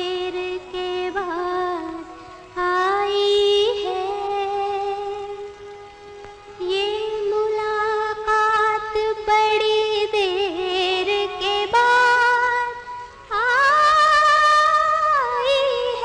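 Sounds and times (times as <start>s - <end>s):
woman singing slow melody: 0.0s - 16.0s.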